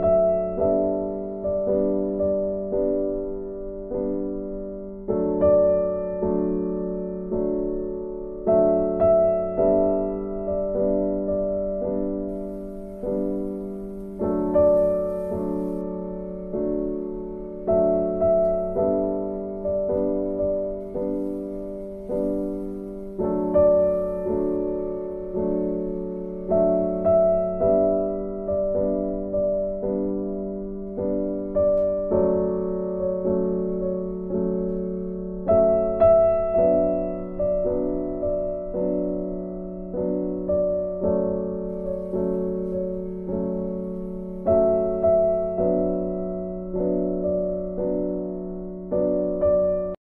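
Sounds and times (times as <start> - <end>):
slow piano chords: 0.0 - 50.0.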